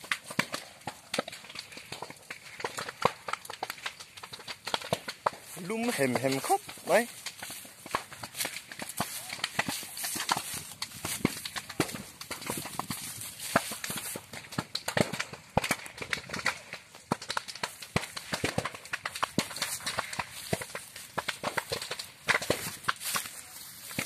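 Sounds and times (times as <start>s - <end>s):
sharp fire pops: 0.0s - 24.0s
vegetation fire crackling: 0.0s - 24.0s.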